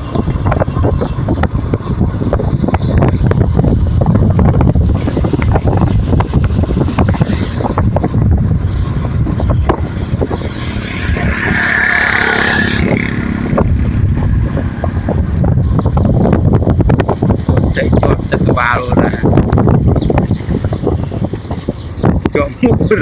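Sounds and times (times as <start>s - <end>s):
moving vehicle rumbling: 0.0s - 23.0s
wind buffeting microphone: 0.0s - 23.0s.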